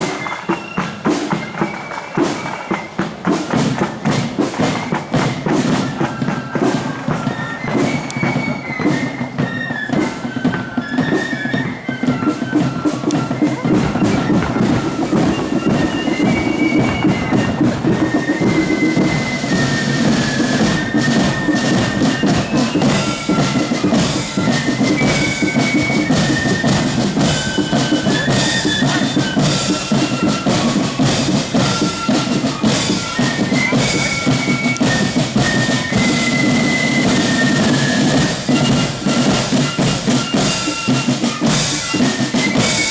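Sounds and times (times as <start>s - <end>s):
flutes playing a tune: 0.0s - 42.9s
snare and bass drums: 0.0s - 42.9s.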